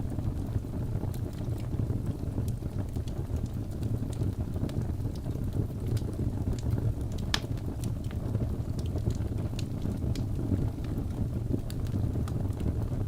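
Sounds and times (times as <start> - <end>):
logs crackling and popping: 0.0 - 13.0
low roar of flame: 0.0 - 13.0.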